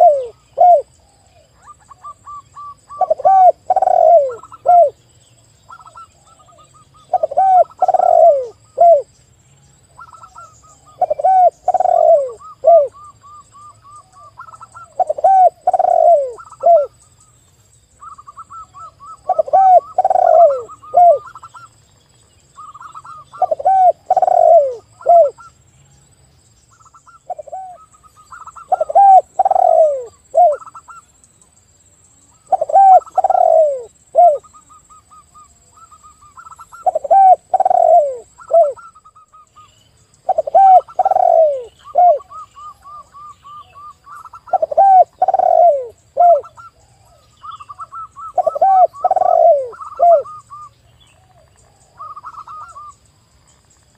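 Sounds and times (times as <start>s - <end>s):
doves cooing: 0.0s - 5.0s, 5.7s - 9.1s, 10.0s - 17.0s, 18.0s - 21.7s, 22.6s - 25.6s, 26.8s - 31.0s, 32.4s - 53.0s.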